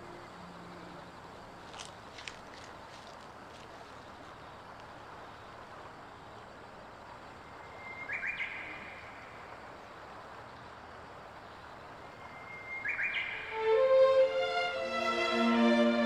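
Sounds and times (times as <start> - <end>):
open countryside hiss: 0.0 - 16.0.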